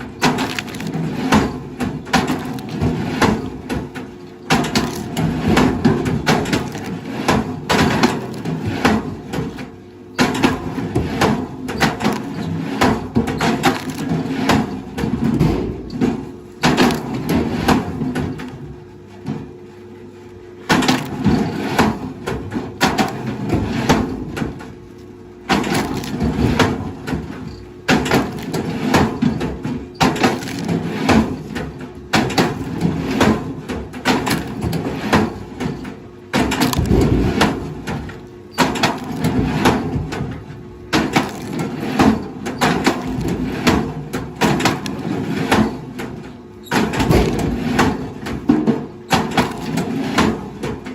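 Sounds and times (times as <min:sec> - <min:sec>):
wood cracking and splintering: 0:00.0 - 0:18.7, 0:20.7 - 0:48.4, 0:49.1 - 0:50.9
machine engine hum: 0:00.0 - 0:50.9.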